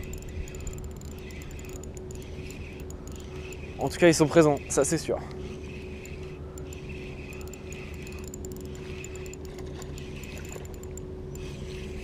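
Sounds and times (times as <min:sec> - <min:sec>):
fishing reel whirring and ticking: 0:00.0 - 0:12.0.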